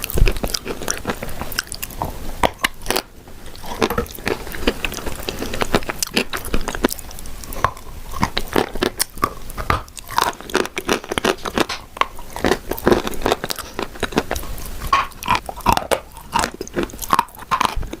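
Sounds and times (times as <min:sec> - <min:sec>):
crunchy chewing bites: 0:00.0 - 0:18.0.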